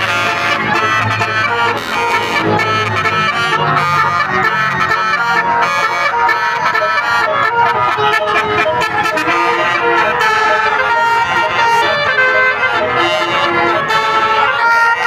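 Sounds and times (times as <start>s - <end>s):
musical air horn playing a tune: 0.0s - 15.0s.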